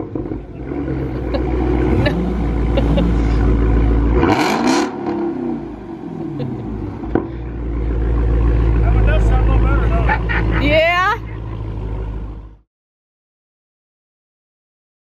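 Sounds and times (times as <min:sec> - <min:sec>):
car engine deep rumble: 0:00.0 - 0:12.6.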